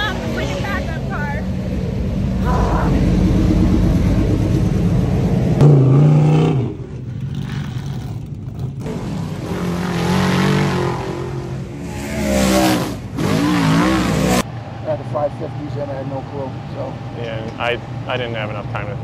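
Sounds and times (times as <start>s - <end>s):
race car engine: 0.0s - 19.0s.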